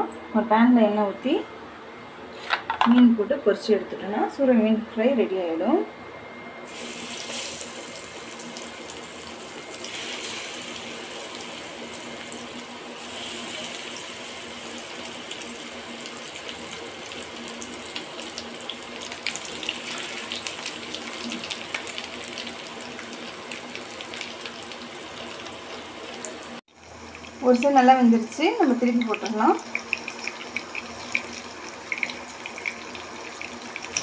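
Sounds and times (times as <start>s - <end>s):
fish sizzling in hot oil: 6.7s - 34.0s.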